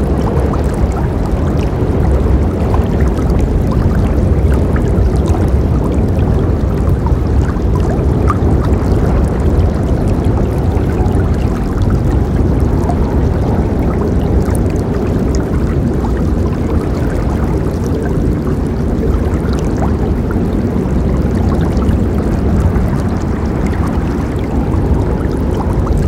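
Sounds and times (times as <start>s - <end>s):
small water splashes: 0.0s - 26.0s.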